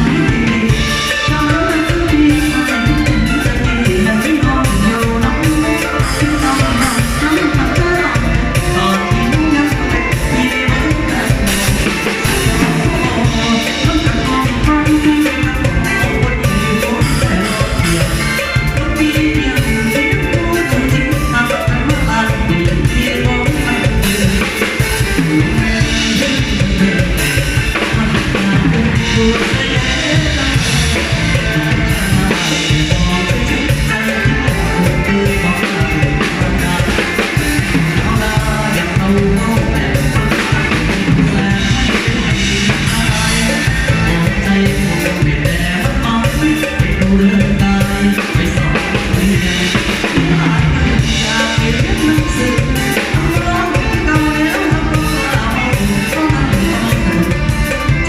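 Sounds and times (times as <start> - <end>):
drum kit beat: 0.0 - 58.0
live band music: 0.0 - 58.0.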